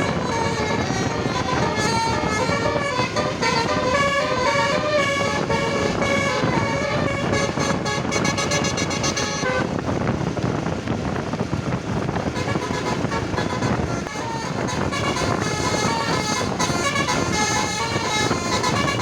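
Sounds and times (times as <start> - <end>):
multi-tone bus horn tune: 0.0 - 10.4, 11.8 - 19.0
engine and road noise: 0.0 - 19.0.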